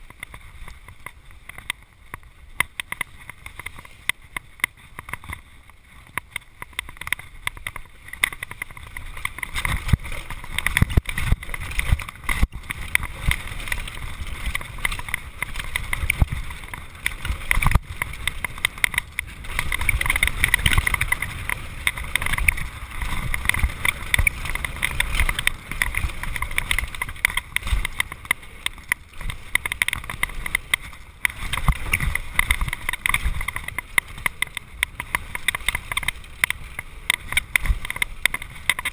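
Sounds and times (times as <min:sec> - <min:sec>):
bike rattling over bumpy ground: 0:00.0 - 0:38.9.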